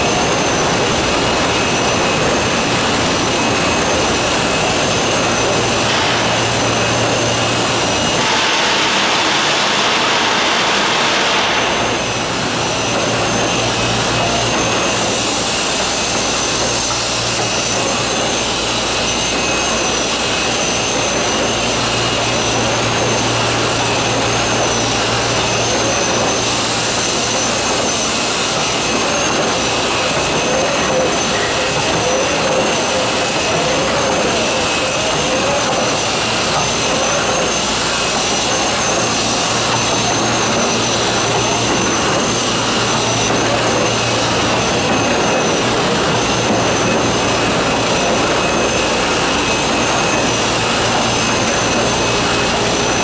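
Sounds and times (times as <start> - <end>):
high machine whine: 0.0 - 53.0
printing press machine rushing: 0.0 - 53.0.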